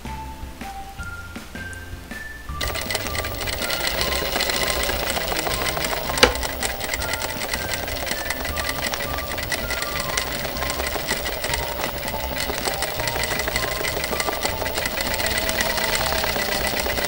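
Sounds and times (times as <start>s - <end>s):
sewing machine stitching: 2.6s - 17.0s.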